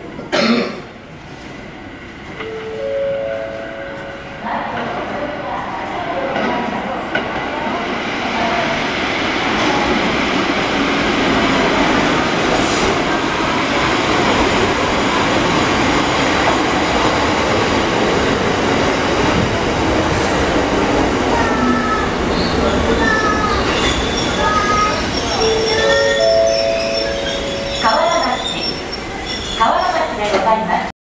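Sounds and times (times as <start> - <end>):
train wheels rumbling on rail: 3.9 - 30.9.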